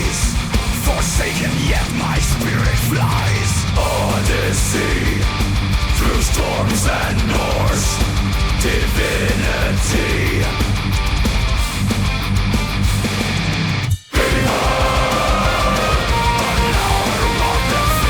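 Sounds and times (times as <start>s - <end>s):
distorted electric guitars: 0.0s - 18.0s
heavy drums: 0.0s - 18.0s.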